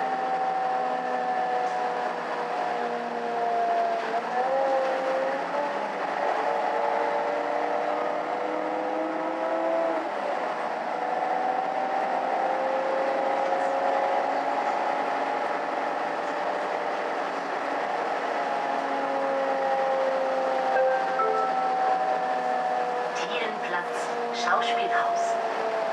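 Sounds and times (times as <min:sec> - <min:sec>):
bus engine and drivetrain whine: 0:00.0 - 0:25.9.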